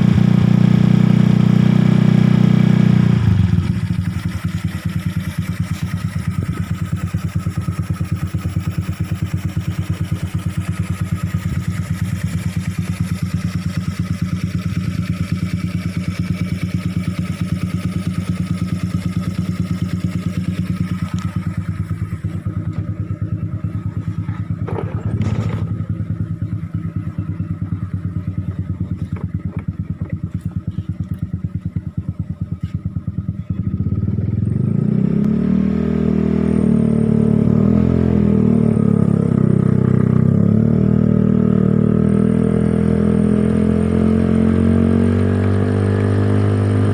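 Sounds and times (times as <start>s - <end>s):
motorcycle engine idling: 0.0s - 35.1s, 36.2s - 43.2s.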